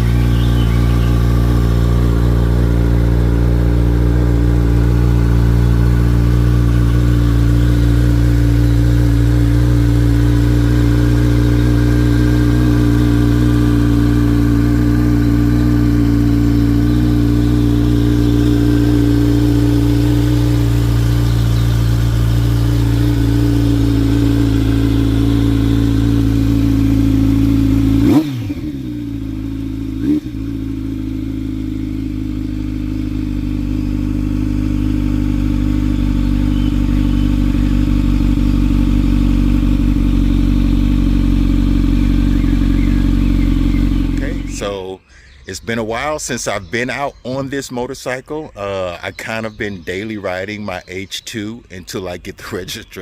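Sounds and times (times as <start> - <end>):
motorcycle engine idling: 0.0 - 53.0.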